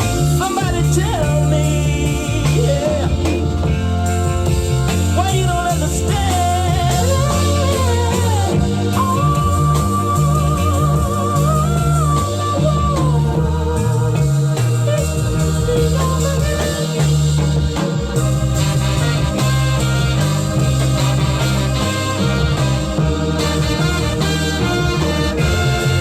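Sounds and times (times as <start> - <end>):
soul band playing: 0.0 - 26.0.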